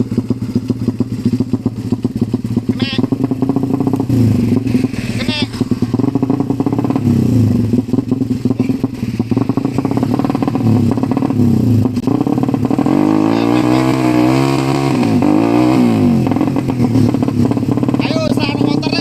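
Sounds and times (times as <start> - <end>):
motorcycle engine revving hard: 0.0 - 19.0.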